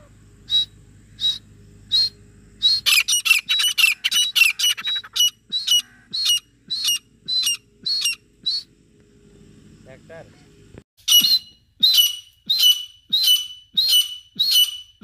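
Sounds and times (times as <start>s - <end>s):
francolins calling: 0.0s - 15.0s.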